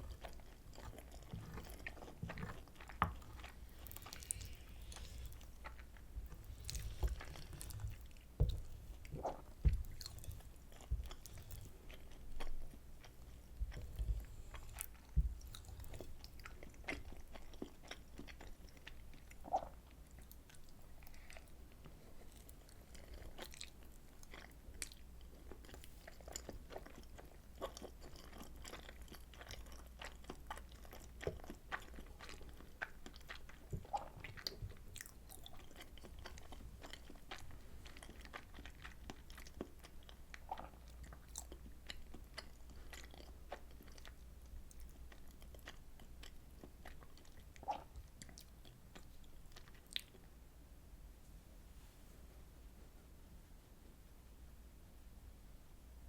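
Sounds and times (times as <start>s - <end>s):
close-miked chewing: 0.0s - 50.3s.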